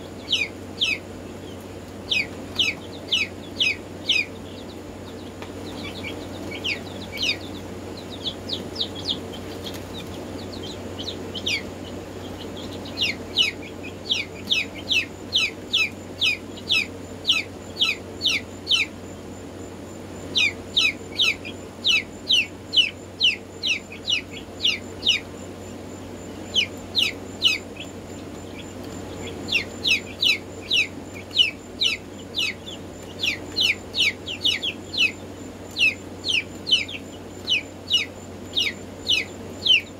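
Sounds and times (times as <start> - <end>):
chicks peeping: 0.0 - 39.9
low hum: 0.0 - 39.9.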